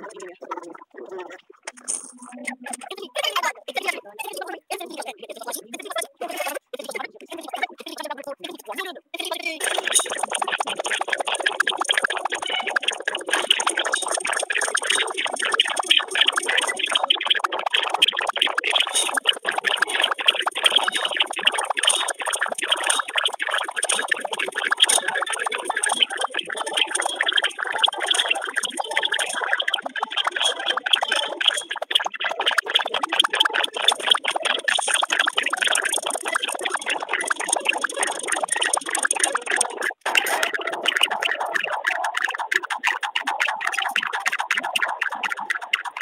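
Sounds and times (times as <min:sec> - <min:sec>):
dense crackling noise: 0:00.0 - 0:46.0.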